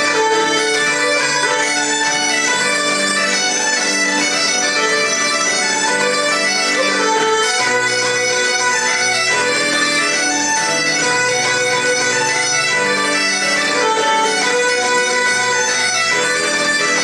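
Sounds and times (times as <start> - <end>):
bagpipes playing: 0.0 - 17.0
fiddle: 0.0 - 17.0
keyboard: 0.0 - 17.0.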